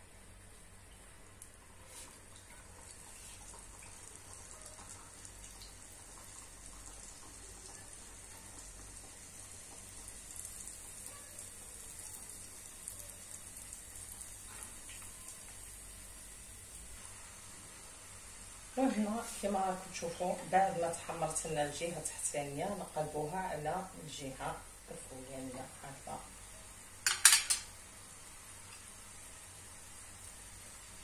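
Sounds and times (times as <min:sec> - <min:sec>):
dough frying in oil: 0:00.0 - 0:31.0.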